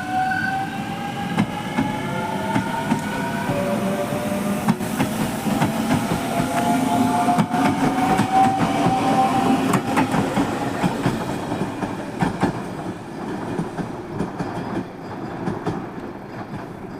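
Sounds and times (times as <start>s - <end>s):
train running rumble: 1.0s - 16.9s
train wheels clicking on rail joints: 1.1s - 16.9s.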